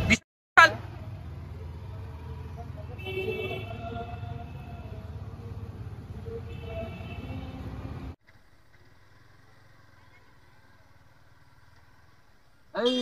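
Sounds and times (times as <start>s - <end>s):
traffic rumble: 0.0s - 13.0s
motorcycle engine hum: 0.8s - 13.0s.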